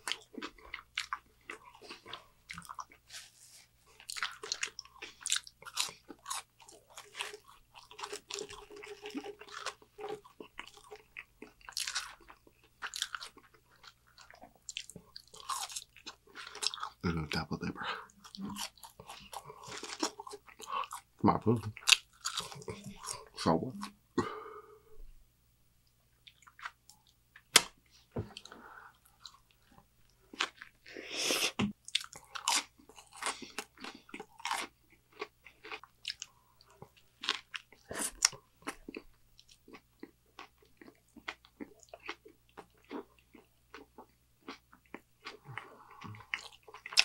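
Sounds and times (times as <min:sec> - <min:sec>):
wet chewing and crunching: 0:00.0 - 0:17.0, 0:18.1 - 0:24.0, 0:26.2 - 0:30.9, 0:31.8 - 0:47.0.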